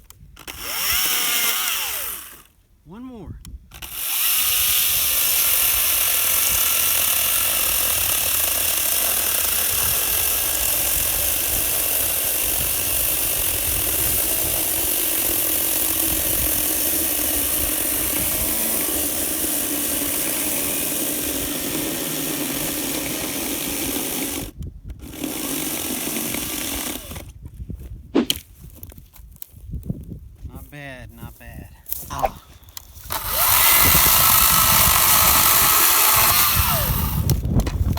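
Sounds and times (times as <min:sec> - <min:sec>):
electric chainsaw cutting wood: 0:00.4 - 0:02.6, 0:03.7 - 0:27.3, 0:32.9 - 0:37.9.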